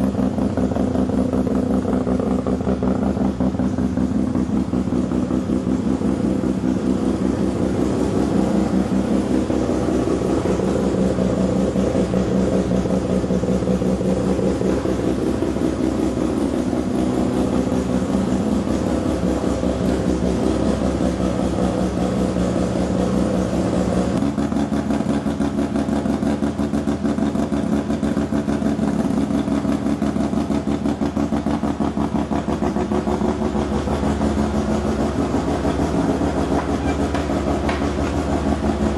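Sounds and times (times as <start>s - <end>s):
rotary engine running loud: 0.0s - 38.9s.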